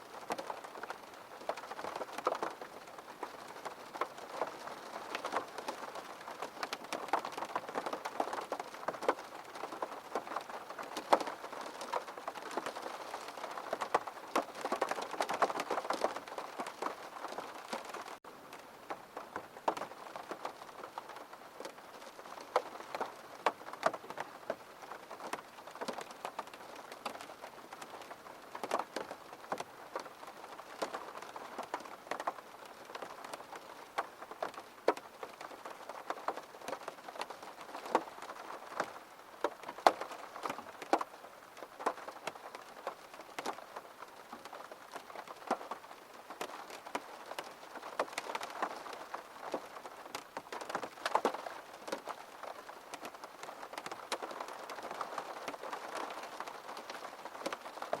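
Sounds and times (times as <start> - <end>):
rain drops tapping: 0.0 - 58.0
soft rain patter: 0.0 - 58.0.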